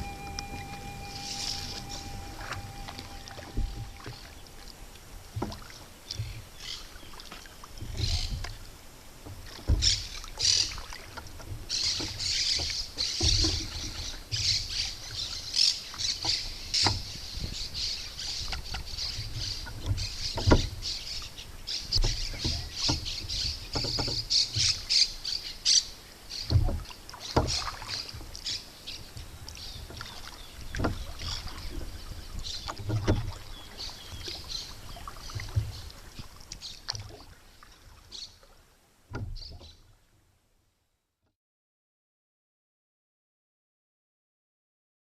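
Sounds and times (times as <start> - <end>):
paddle strokes in water: 0.0 - 40.4.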